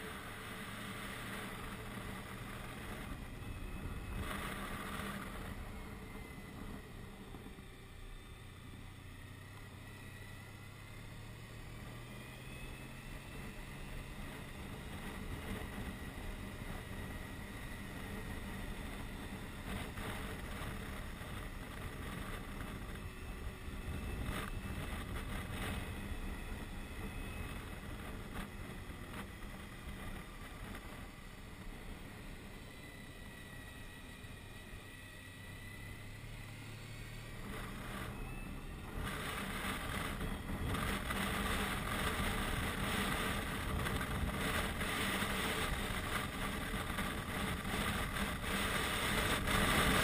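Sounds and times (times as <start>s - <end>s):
wind rushing over microphone: 0.0s - 7.8s, 11.7s - 33.4s, 36.5s - 50.0s
motorcycle engine hum: 0.0s - 50.0s.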